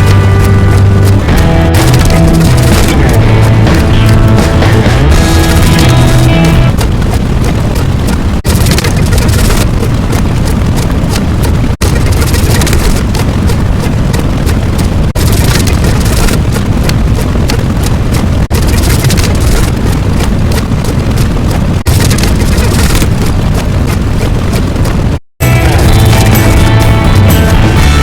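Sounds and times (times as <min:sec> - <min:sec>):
dense rumbling noise: 0:00.0 - 0:28.0.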